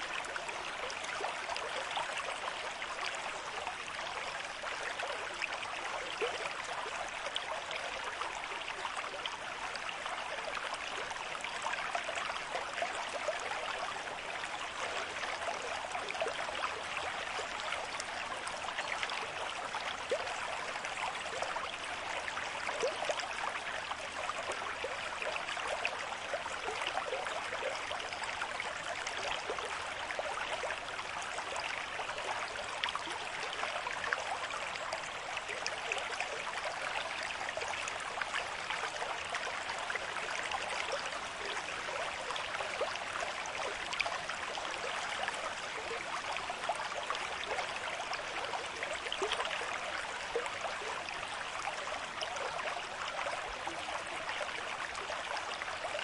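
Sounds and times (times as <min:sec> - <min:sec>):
stream running over stones: 0:00.0 - 0:56.0.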